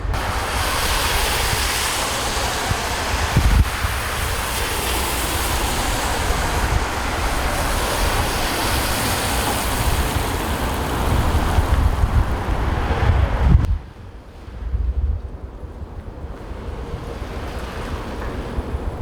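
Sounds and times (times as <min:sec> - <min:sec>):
storm and street noise hiss: 0:00.0 - 0:19.0
wind buffeting microphone: 0:00.0 - 0:19.0.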